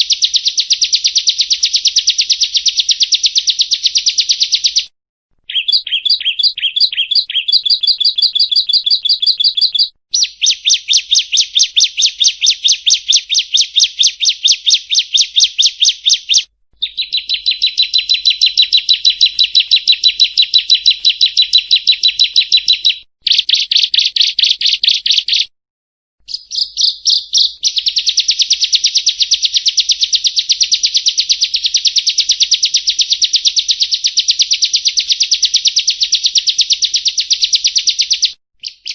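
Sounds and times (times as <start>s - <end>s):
bird song rapid high notes: 0.0s - 4.9s, 5.5s - 25.5s, 26.2s - 38.9s.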